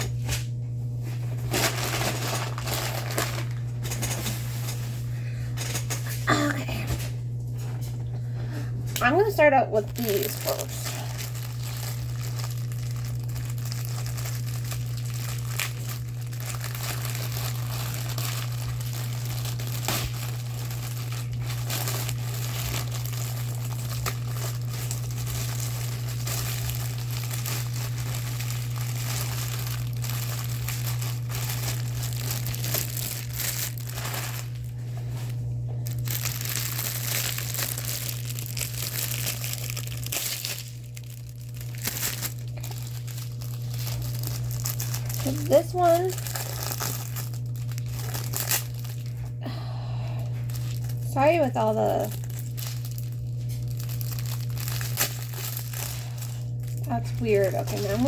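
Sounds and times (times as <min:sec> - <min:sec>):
low hum: 0:00.0 - 0:58.0
plastic packaging crinkling: 0:00.0 - 0:58.0.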